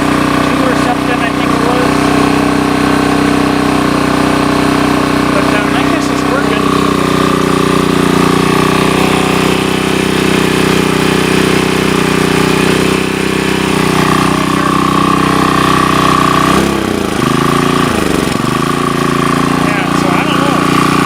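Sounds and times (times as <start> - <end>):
generator engine running: 0.0 - 21.0.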